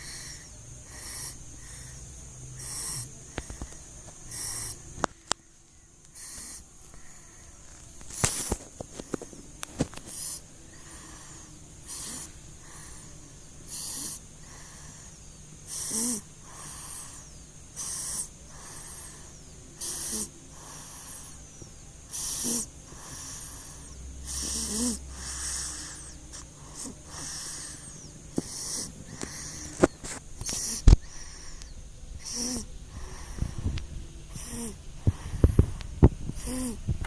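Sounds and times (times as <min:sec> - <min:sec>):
baby snoring: 0:00.0 - 0:05.1, 0:06.1 - 0:07.4, 0:08.0 - 0:36.9.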